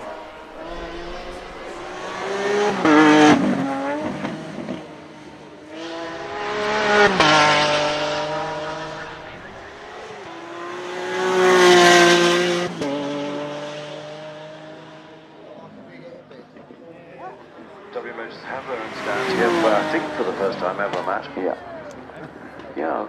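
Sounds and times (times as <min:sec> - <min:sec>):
car engine revving: 0:00.0 - 0:15.6, 0:17.4 - 0:22.7.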